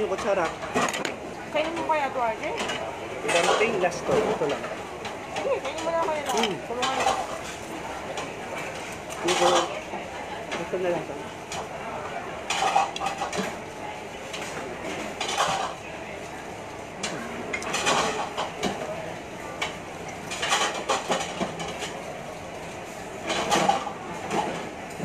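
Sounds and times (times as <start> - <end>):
background murmur: 0.0 - 25.0.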